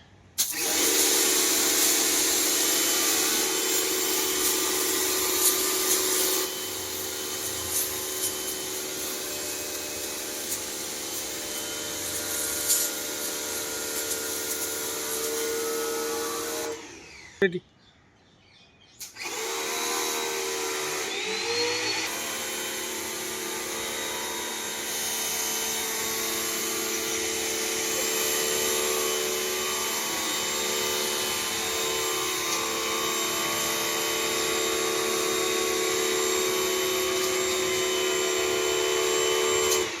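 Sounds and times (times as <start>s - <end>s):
pressure washer humming and hissing: 0.4s - 17.4s, 19.0s - 40.0s.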